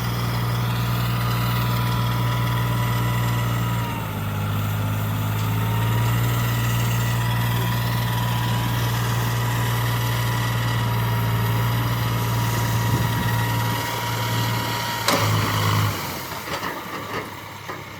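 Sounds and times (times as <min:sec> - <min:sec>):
diesel engine idling: 0:00.0 - 0:17.9.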